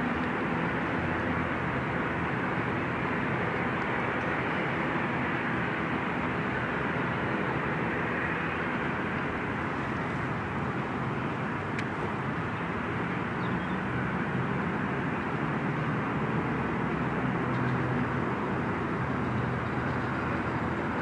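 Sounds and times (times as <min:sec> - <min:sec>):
outdoor roar and hiss: 0:00.0 - 0:21.0.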